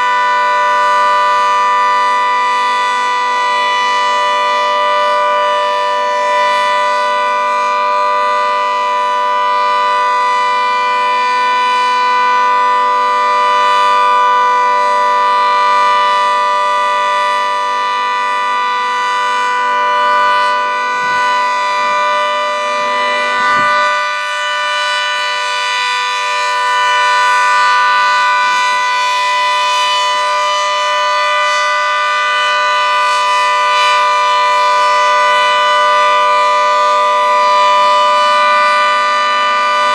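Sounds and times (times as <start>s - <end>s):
dual-tone warning siren: 0.0s - 39.9s.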